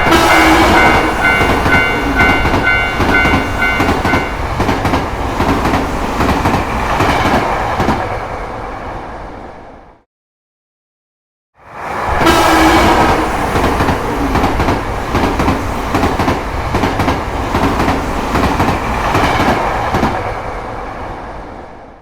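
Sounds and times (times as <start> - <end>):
train rumbling on rails: 0.0 - 10.1, 11.6 - 22.0.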